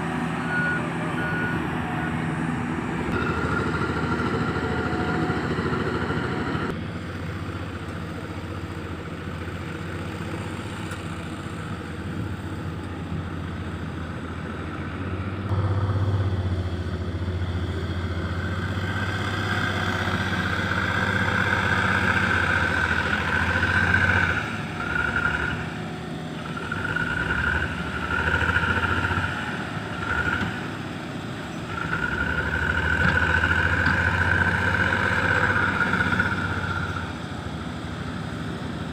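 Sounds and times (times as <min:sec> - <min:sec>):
diesel truck engine running: 0:00.0 - 0:38.9
engine whine: 0:00.0 - 0:38.9.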